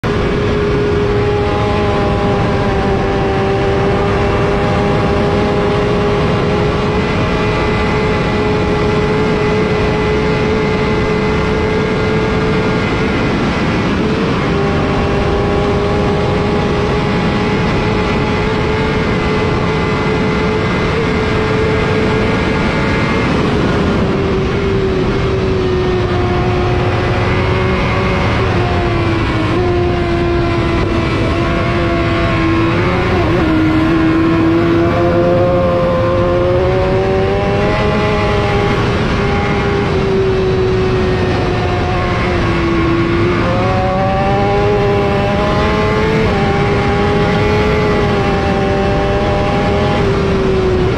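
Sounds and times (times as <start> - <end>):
motorcycle engine at high revs: 0.0 - 50.9
wind noise: 0.0 - 50.9.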